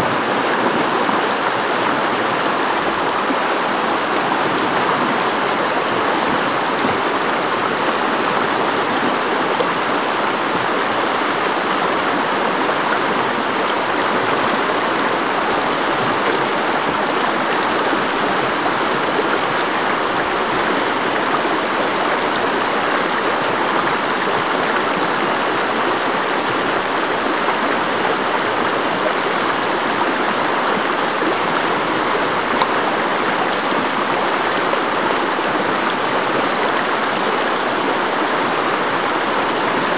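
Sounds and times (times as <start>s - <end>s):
river rapid rushing: 0.0s - 39.9s.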